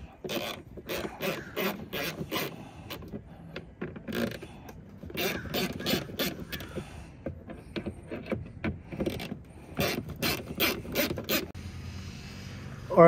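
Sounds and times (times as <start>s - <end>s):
hand ratchet clicking: 0.2s - 11.5s.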